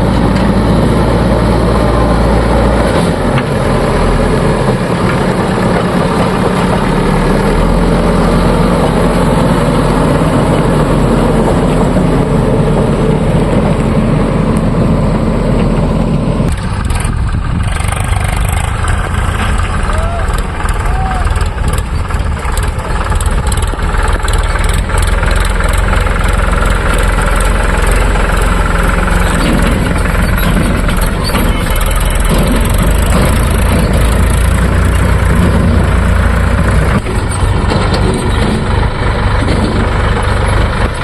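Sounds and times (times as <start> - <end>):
heavy diesel machinery running: 0.0 - 41.0.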